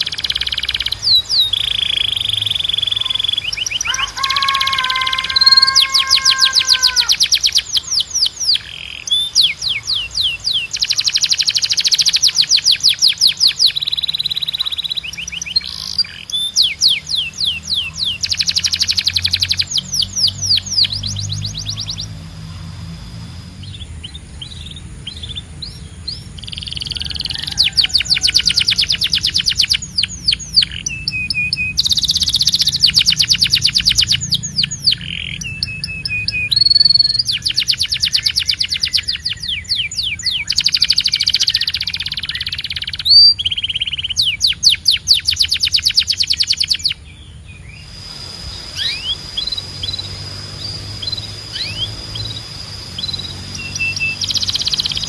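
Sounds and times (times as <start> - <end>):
canary trilling: 0.0 - 22.7, 26.3 - 47.0, 48.7 - 55.0
scattered bird chirps: 0.0 - 55.0.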